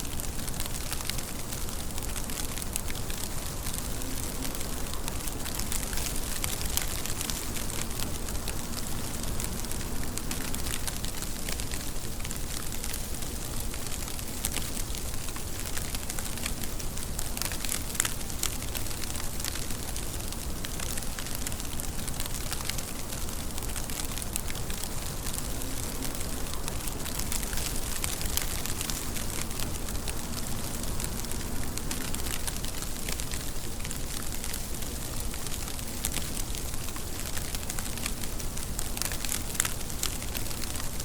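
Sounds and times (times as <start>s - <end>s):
raindrops ticking on a surface: 0.0s - 41.0s
steady rainfall: 0.0s - 41.0s.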